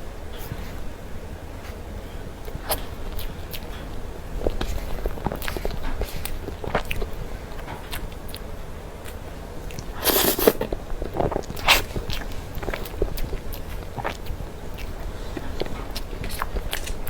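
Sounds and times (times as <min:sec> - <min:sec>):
mouth clicks and chewing: 0:02.4 - 0:17.0.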